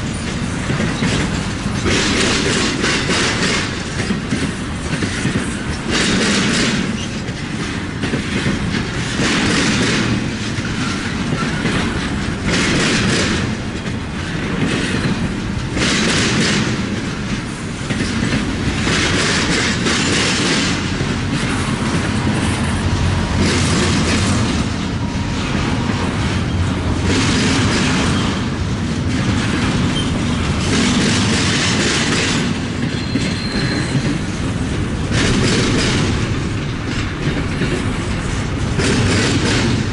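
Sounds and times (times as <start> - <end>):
train cars rattling: 0.0 - 39.9
train wheels clacking on rails: 0.0 - 39.9.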